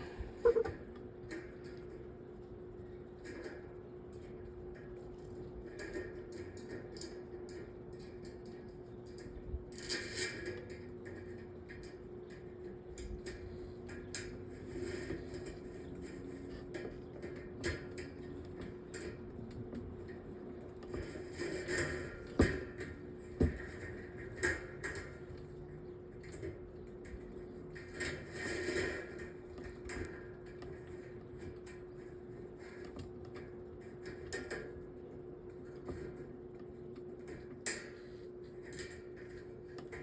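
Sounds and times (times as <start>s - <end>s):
fan motor humming: 0.0s - 5.6s, 10.9s - 40.0s.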